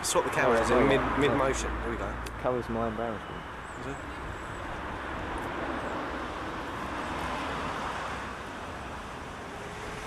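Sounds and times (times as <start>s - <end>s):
passing car noise: 0.0s - 10.0s.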